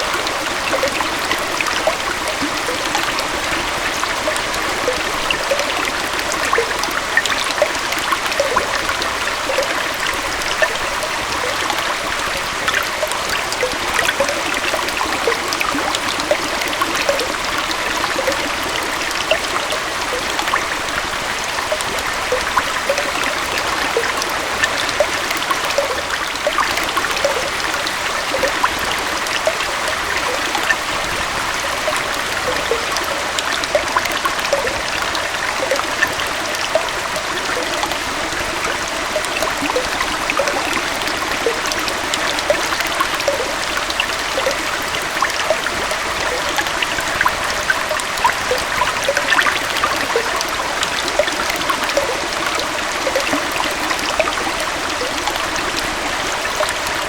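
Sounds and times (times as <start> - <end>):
waterfall and stream over rocks: 0.0 - 57.0.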